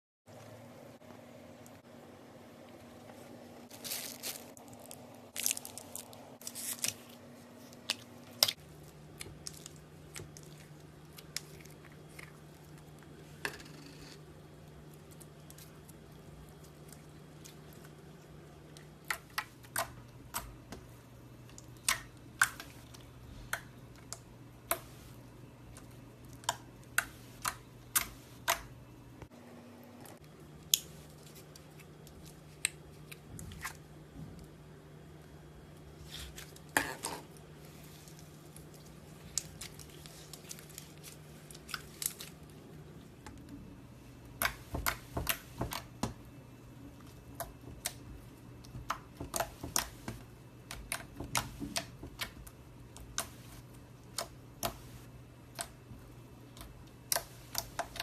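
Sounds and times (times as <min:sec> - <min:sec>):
low background hum: 0:00.3 - 0:58.0.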